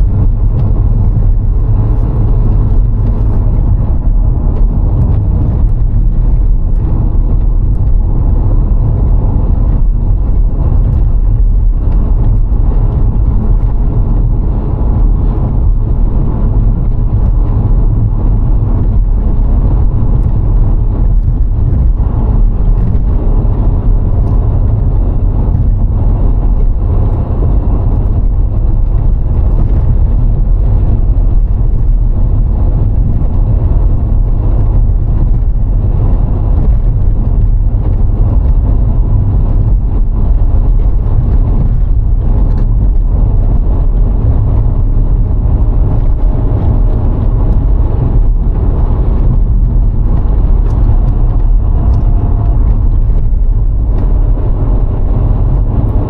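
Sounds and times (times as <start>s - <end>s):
car driving low rumble: 0.0s - 56.0s.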